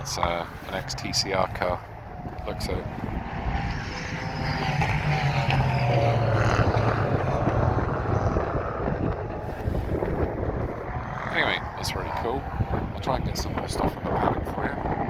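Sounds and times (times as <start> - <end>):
racing car engine passing: 0.0 - 13.4.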